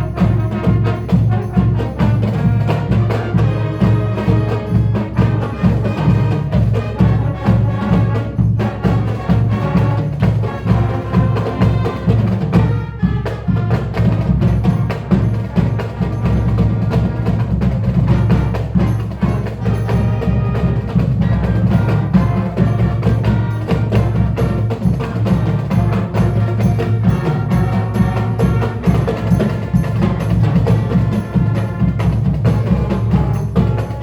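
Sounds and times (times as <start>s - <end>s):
drums on steady beat: 0.0s - 34.0s
marching band playing: 0.0s - 34.0s.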